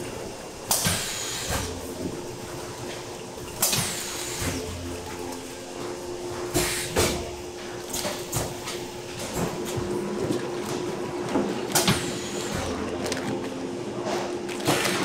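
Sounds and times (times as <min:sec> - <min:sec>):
packaging machine humming: 0:00.0 - 0:15.0.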